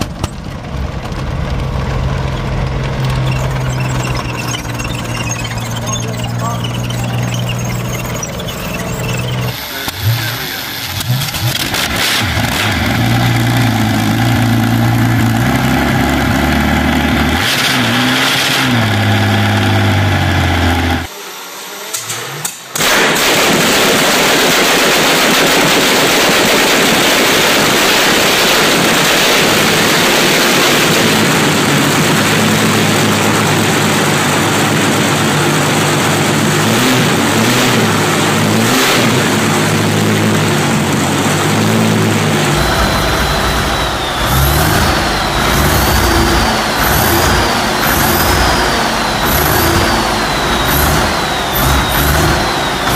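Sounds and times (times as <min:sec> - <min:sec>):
large engine revving: 0:00.0 - 0:21.1, 0:21.9 - 0:52.9.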